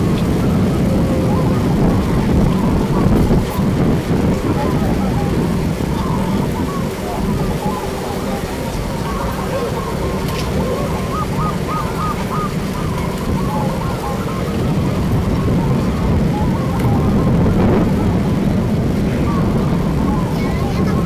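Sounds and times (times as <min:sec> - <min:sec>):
doves cooing: 0:00.0 - 0:21.0
low rumble: 0:00.0 - 0:21.0.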